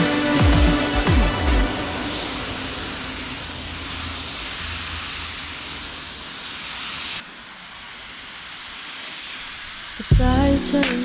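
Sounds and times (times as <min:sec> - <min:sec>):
spray paint hissing: 0:00.0 - 0:11.0.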